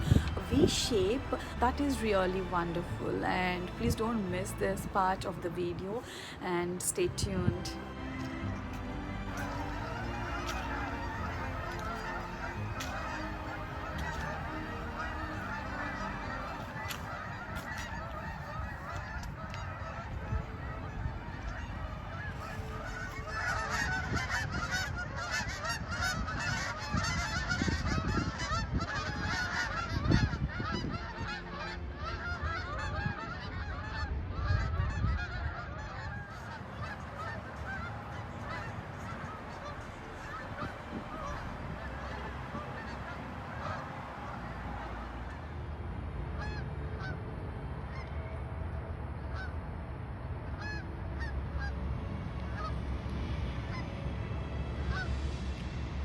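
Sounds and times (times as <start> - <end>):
geese honking: 0.0 - 47.2, 47.8 - 48.4, 49.2 - 49.6, 50.5 - 51.8, 52.4 - 52.8, 54.8 - 55.2
low rumble: 0.0 - 56.0.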